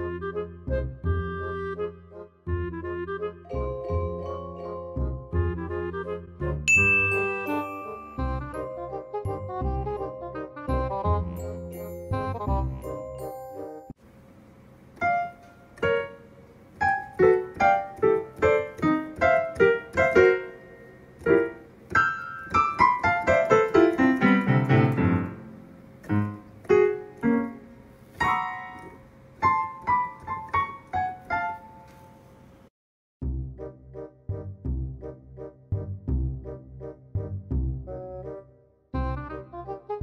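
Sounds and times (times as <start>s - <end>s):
digital piano notes: 0.0s - 14.0s, 14.9s - 32.4s, 33.2s - 40.0s.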